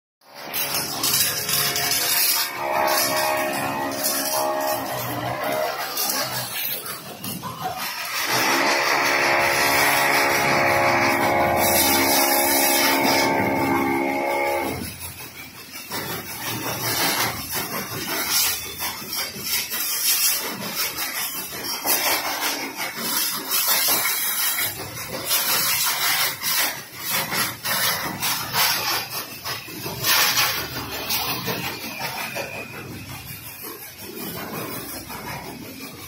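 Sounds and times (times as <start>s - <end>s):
pressure washer spraying water: 0.3s - 36.0s.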